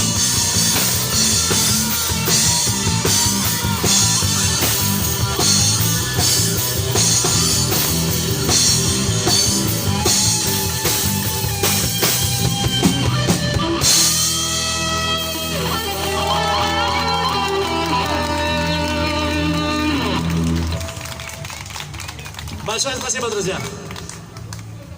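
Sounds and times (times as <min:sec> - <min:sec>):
drum kit: 0:00.0 - 0:21.3
bass guitar: 0:00.0 - 0:22.7
electric guitar: 0:00.0 - 0:22.7.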